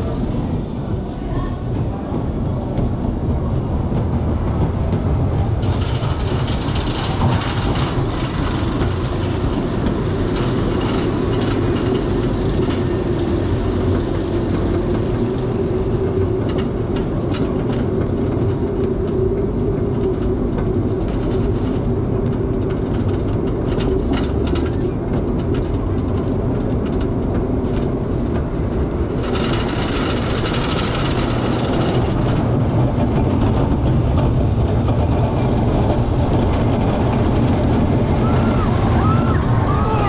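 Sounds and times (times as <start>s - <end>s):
ride vehicle rumbling on rails: 0.0s - 40.0s.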